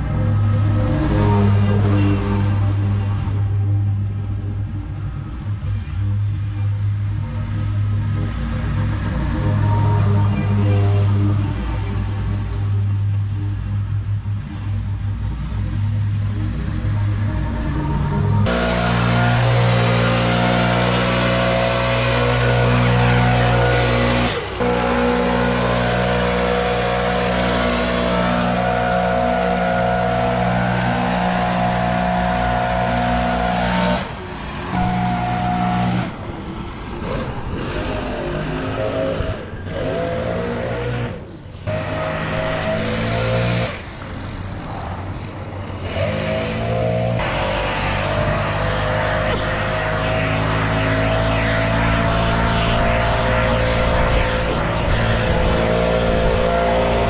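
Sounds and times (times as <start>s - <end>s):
small gasoline engines running: 4.5s - 57.0s.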